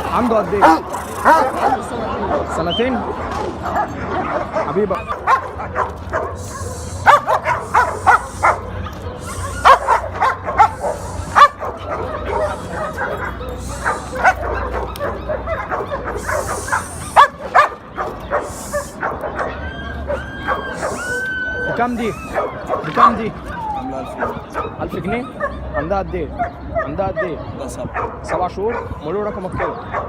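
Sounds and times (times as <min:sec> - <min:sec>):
dogs barking: 0:00.0 - 0:30.0.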